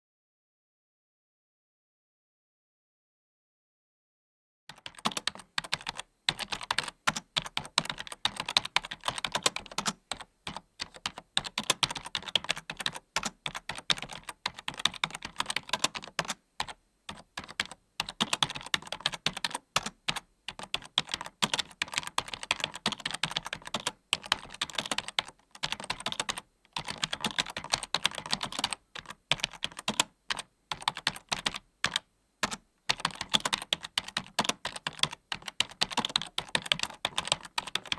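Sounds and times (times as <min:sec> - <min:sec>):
keyboard typing: 0:04.7 - 0:37.9.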